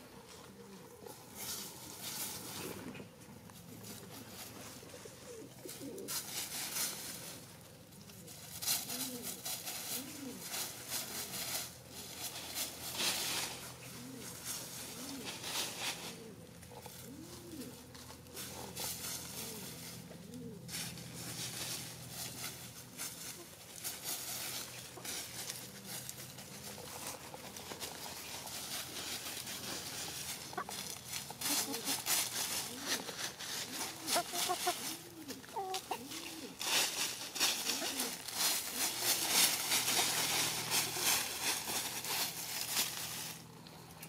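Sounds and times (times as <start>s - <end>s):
chickens scratching in dry leaves: 0.0s - 44.0s.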